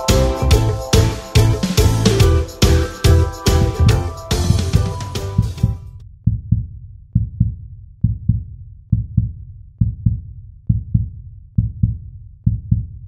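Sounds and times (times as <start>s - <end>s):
deep heartbeat-like thumps: 0.0s - 13.0s.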